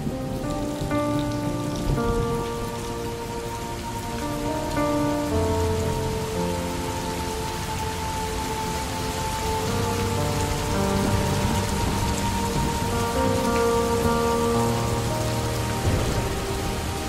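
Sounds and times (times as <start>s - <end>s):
rain falling: 0.0s - 17.0s
soft background music: 0.0s - 17.0s
water running off roof: 0.0s - 17.0s.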